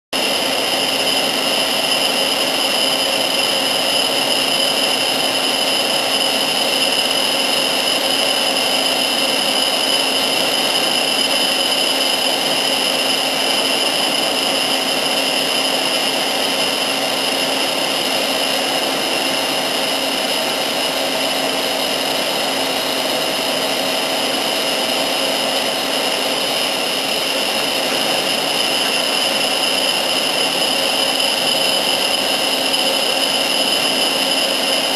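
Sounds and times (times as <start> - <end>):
machine running with high whine: 0.2 - 34.9.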